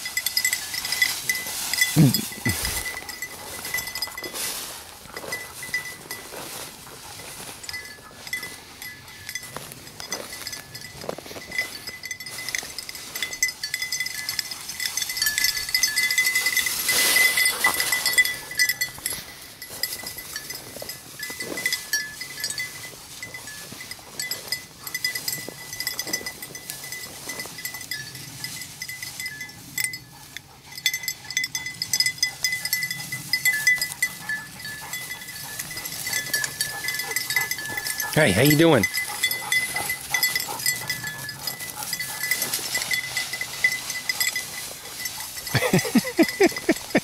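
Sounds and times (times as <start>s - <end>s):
brush rustling: 0.0s - 47.0s
dog collar bell jingling: 0.0s - 47.0s.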